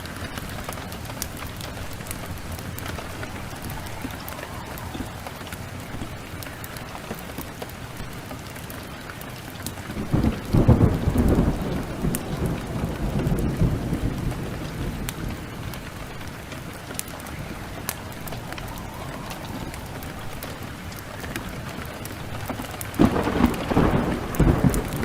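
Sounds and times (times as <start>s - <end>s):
thunder rolling: 0.0s - 8.2s, 9.9s - 25.0s
steady rain: 0.0s - 25.0s.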